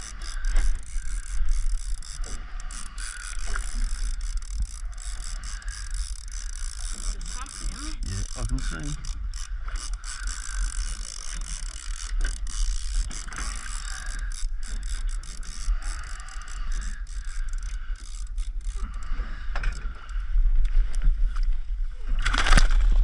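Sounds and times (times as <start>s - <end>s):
fishing reel whirring and clicking: 0.0s - 21.5s.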